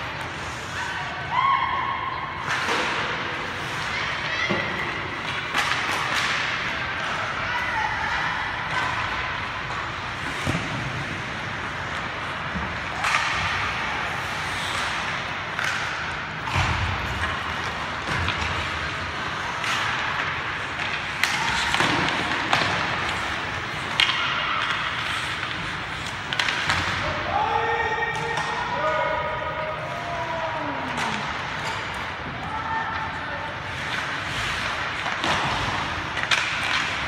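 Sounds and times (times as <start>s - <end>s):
skates scraping on ice: 2.4s - 27.2s, 28.2s - 37.0s
sticks and puck clacking: 2.4s - 37.0s.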